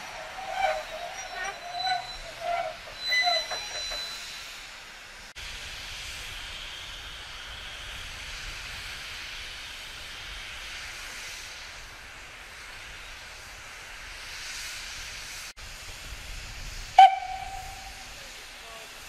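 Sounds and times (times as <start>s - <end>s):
steam hissing: 0.0s - 19.0s
train noise: 0.0s - 19.0s.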